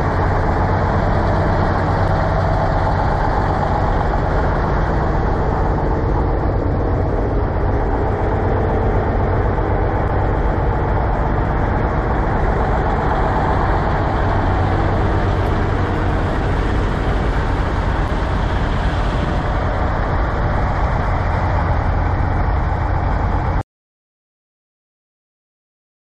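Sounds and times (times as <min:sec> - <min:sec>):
truck diesel engine idling: 0:00.0 - 0:23.6.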